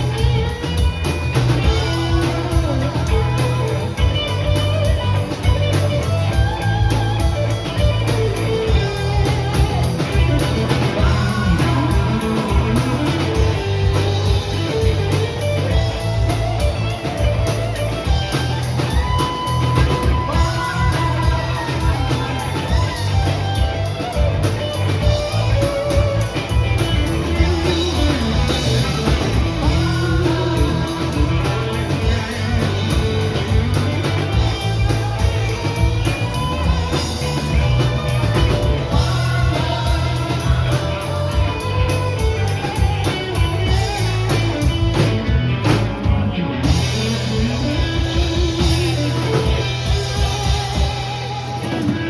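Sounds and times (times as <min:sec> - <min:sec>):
electric guitar lead bending notes: 0:00.0 - 0:52.0
rock band playing: 0:00.0 - 0:52.0.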